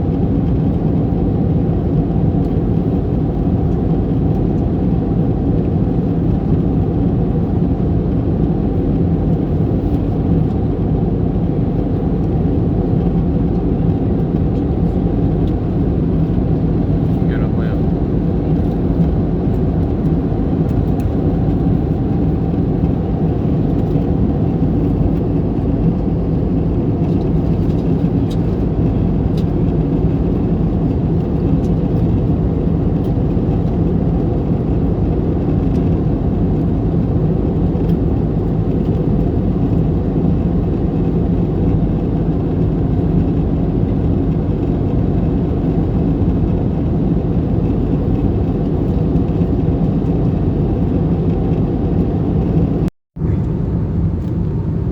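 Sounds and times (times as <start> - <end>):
aircraft cabin roar: 0.0 - 54.9.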